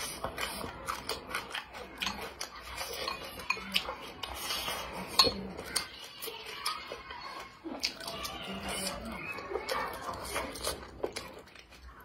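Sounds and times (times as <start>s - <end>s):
eating sounds: 0.0s - 12.0s.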